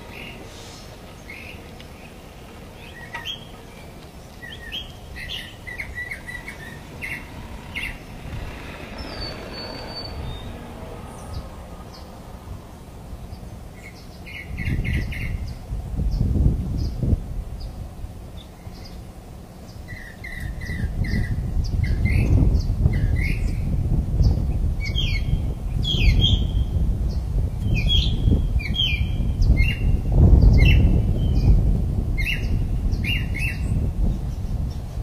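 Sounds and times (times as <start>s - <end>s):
birds chirping: 0.0s - 17.0s, 17.6s - 31.6s, 32.2s - 35.0s
low steady rumble: 0.0s - 35.0s.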